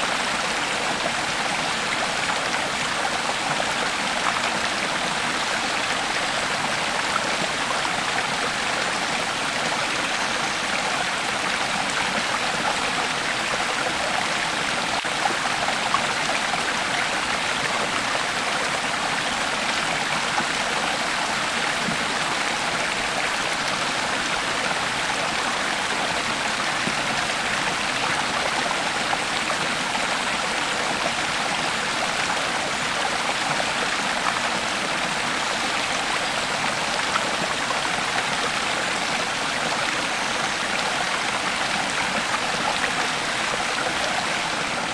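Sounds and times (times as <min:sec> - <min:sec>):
creek water flowing over rocks: 0:00.0 - 0:44.9.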